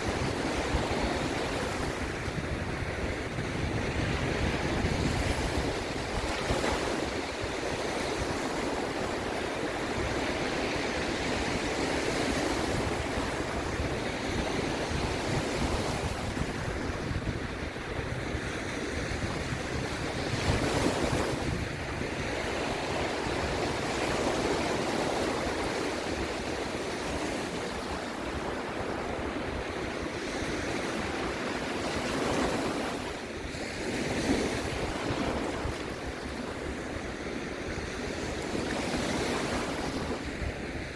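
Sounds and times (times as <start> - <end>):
sea waves breaking: 0.0 - 40.9
wind on microphone: 0.0 - 40.9.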